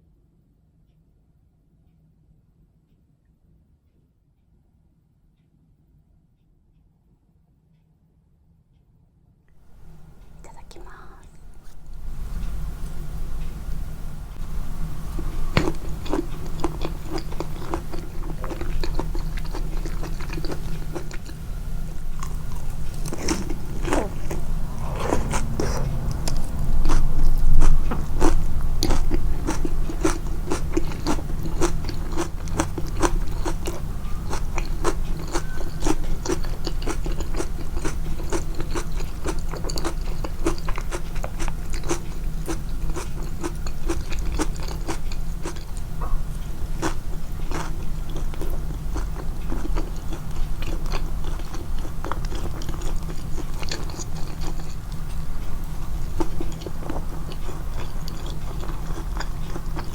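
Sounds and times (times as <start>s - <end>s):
person chewing crunchy food: 9.7s - 59.9s.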